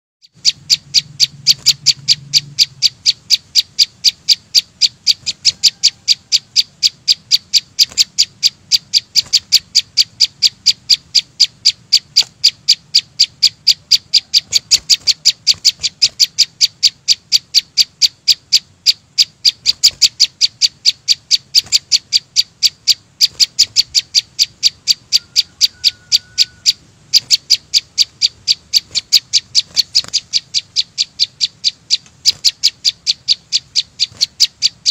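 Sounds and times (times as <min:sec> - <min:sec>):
songbird calling high note: 0:00.2 - 0:34.9.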